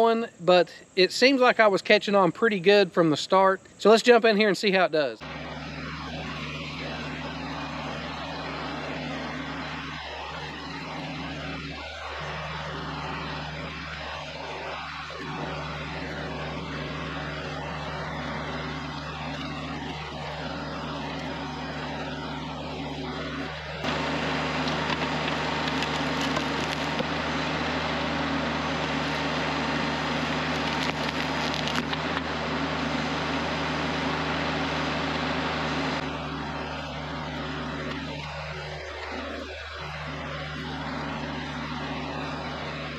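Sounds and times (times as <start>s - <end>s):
broad rushing noise: 5.2s - 42.9s
tractor diesel engine running: 5.2s - 42.9s.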